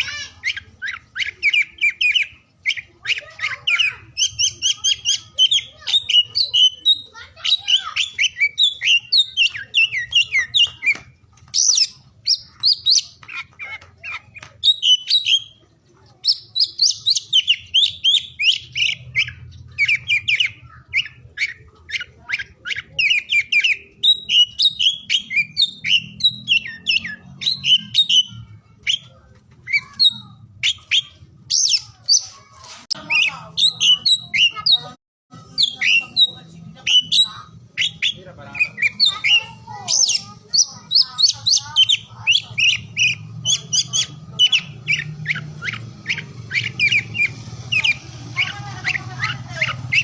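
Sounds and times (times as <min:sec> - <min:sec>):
bird singing whistles and chirps: 0:00.1 - 0:15.6, 0:16.2 - 0:32.4, 0:33.0 - 0:50.0.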